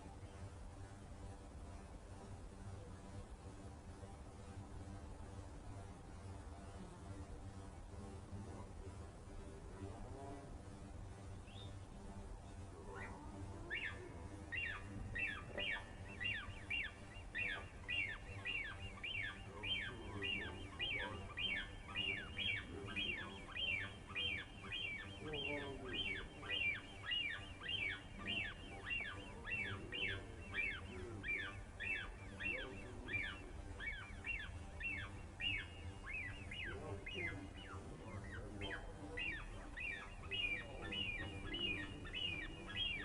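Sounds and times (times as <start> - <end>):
birds calling: 0.0 - 43.0.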